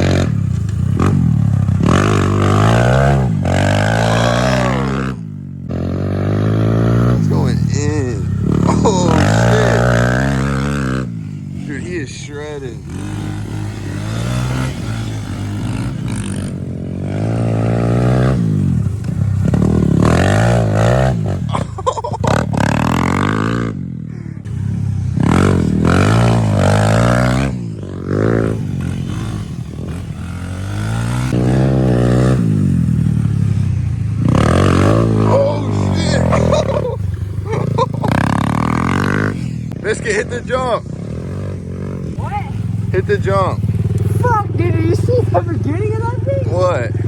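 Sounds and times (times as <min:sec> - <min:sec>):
pit bike engine revving: 0:00.0 - 0:47.0.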